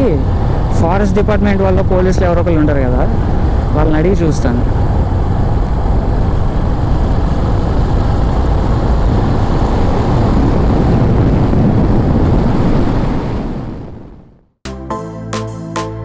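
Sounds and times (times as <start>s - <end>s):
wind rushing over microphone: 0.0s - 14.6s.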